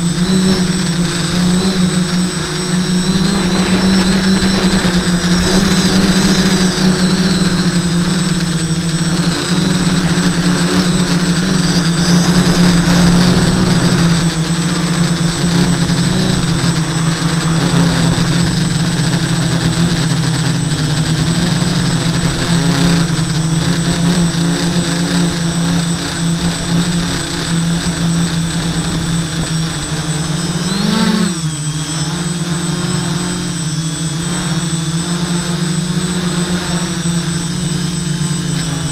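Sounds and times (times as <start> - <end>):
quadcopter motors buzzing: 0.0 - 38.9.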